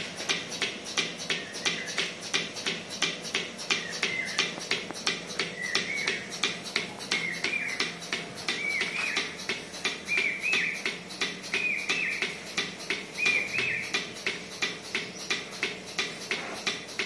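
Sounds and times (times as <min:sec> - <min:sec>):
milking machine pulsator clicks: 0:00.0 - 0:17.0.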